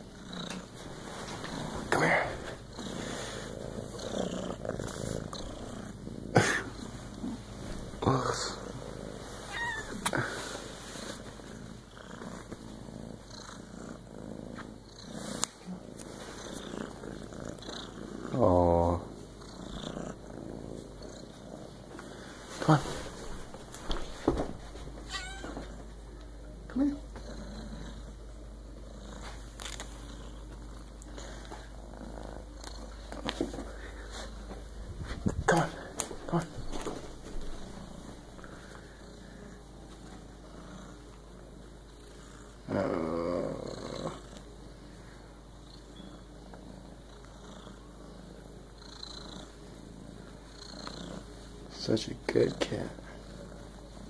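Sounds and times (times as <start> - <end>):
kitten purring: 0.0 - 24.2, 25.0 - 44.6, 45.5 - 54.0.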